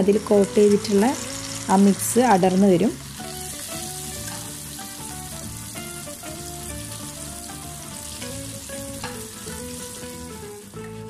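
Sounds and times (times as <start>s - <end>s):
chicken deep-frying in hot oil: 0.0s - 10.7s
gentle background melody: 0.0s - 11.0s.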